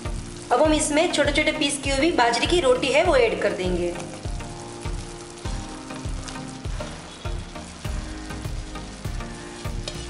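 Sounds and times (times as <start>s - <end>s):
background music with steady beat: 0.0s - 10.0s
gravy sizzling and bubbling: 0.0s - 10.0s.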